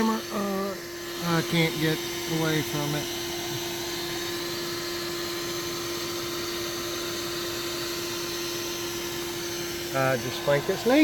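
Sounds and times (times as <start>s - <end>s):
vacuum motor humming: 0.0s - 11.0s.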